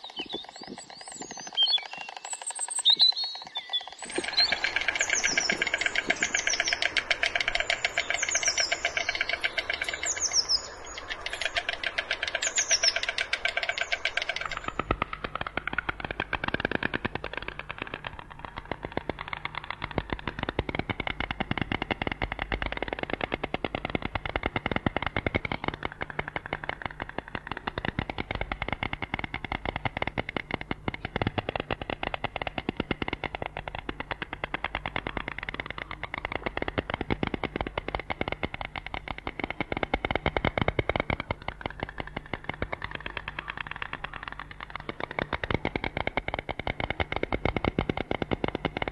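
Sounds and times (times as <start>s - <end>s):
small birds chirping: 0.0s - 46.0s
storks clattering bills: 0.0s - 48.9s.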